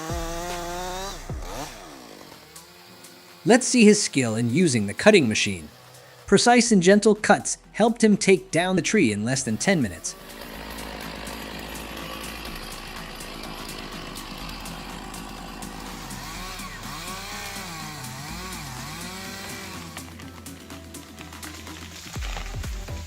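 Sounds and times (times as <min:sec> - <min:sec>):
background music: 0:00.0 - 0:23.0
chainsaw cutting tree trunk: 0:00.0 - 0:23.0.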